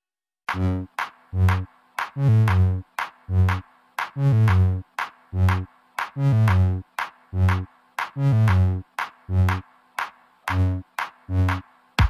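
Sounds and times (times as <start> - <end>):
electronic music with steady beat: 0.5 - 12.0.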